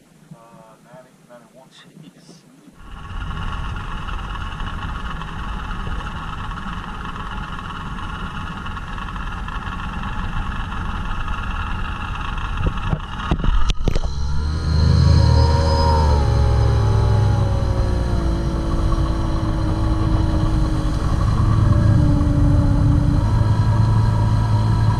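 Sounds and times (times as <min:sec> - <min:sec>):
boat engine running: 0:02.8 - 0:24.9.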